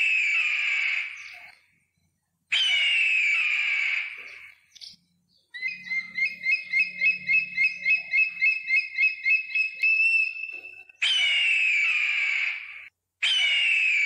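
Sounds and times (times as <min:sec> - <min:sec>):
eagle chirping: 0:00.0 - 0:01.8, 0:02.5 - 0:14.0.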